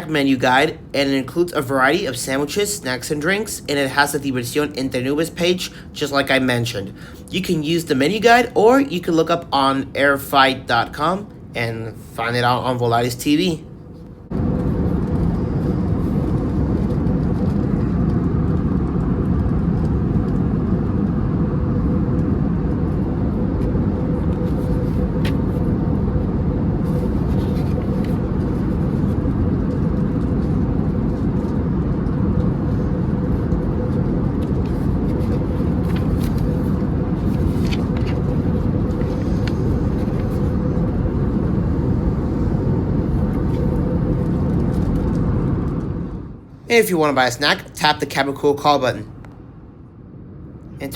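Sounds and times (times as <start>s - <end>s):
airliner cabin drone: 0.0s - 50.9s.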